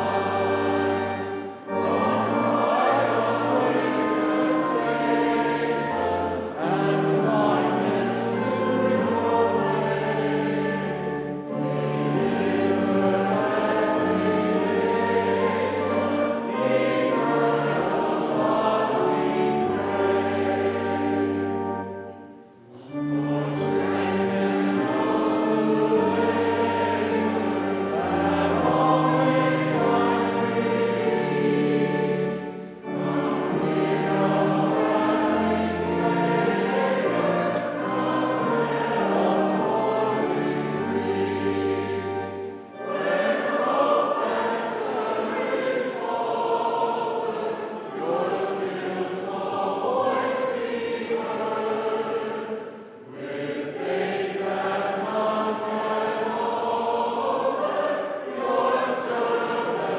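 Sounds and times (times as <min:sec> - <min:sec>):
choir singing: 0:00.0 - 0:59.9
organ: 0:00.0 - 0:59.9.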